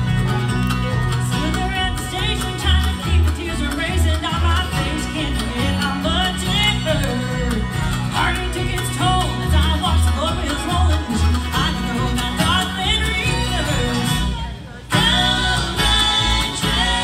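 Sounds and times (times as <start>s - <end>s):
acoustic guitar: 0.0s - 17.0s
banjo: 0.0s - 17.0s
mandolin: 0.0s - 17.0s
upright bass: 0.0s - 17.0s.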